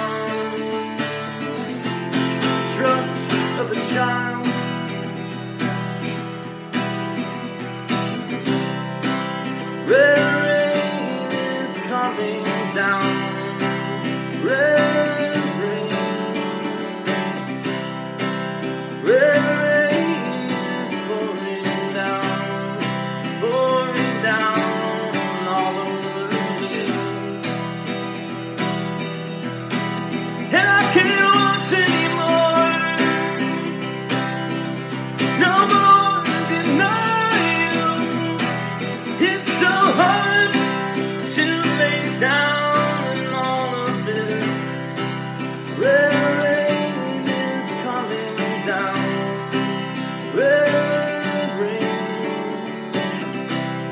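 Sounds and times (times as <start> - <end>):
man singing: 0.0 - 6.1, 7.4 - 53.9
acoustic guitar strumming: 0.0 - 53.9.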